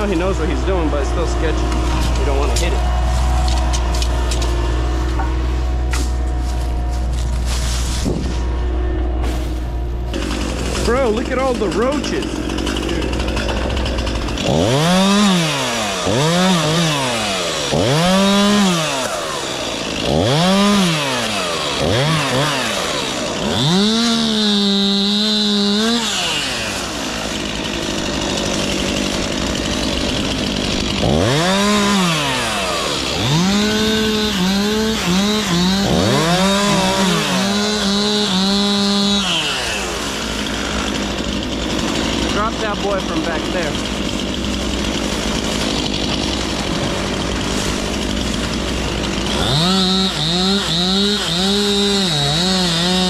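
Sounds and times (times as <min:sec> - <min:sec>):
chainsaw revving: 0:00.0 - 0:09.2, 0:09.8 - 0:53.0.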